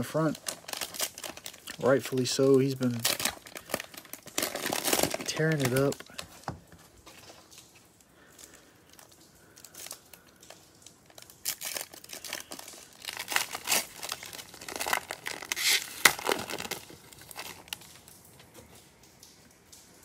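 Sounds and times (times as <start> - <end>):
plastic wrapper crinkling: 0.0 - 19.8.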